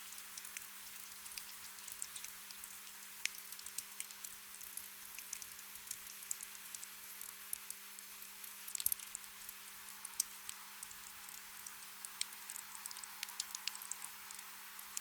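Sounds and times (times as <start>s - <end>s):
gentle rain hiss: 0.0s - 15.0s
raindrops ticking and pattering: 0.0s - 15.0s.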